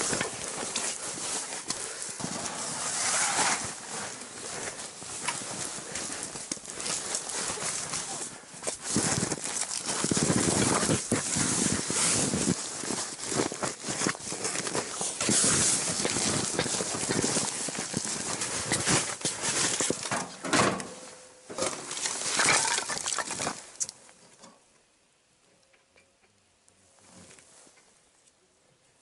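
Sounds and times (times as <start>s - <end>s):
clothing and tent fabric rustling: 0.0s - 23.8s, 26.9s - 27.9s.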